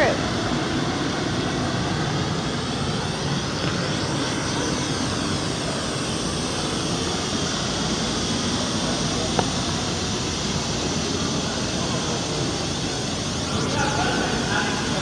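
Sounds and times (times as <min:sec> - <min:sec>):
white noise hiss from loudspeakers: 0:00.0 - 0:15.0.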